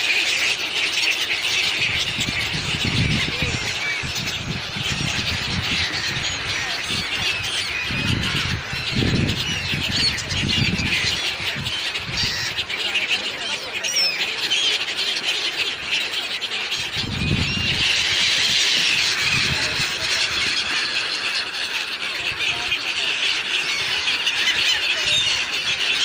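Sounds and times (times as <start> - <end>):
harsh bird squawks: 0.0 - 26.0
many birds chirping: 0.0 - 26.0.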